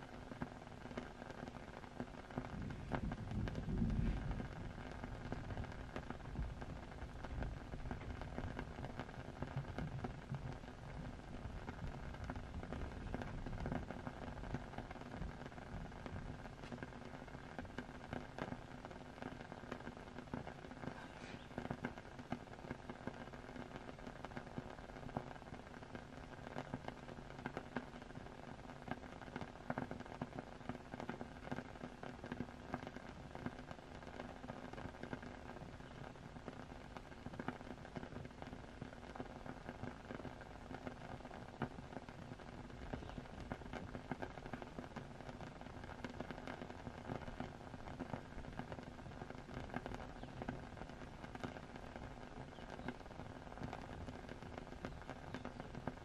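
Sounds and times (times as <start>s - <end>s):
faint steady hum: 0.0s - 56.0s
small crackling pops: 0.0s - 56.0s
steady rain: 0.0s - 56.0s.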